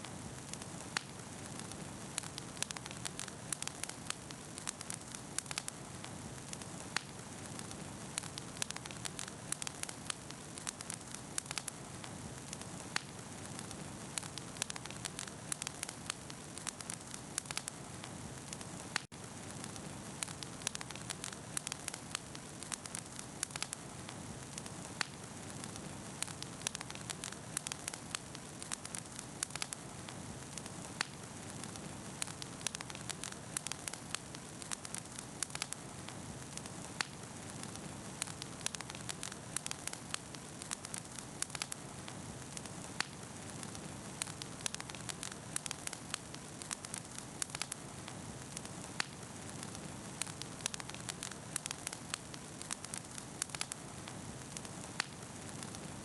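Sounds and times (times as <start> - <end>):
campfire crackling and popping: 0.0 - 56.0
hiss of flame: 0.0 - 56.0.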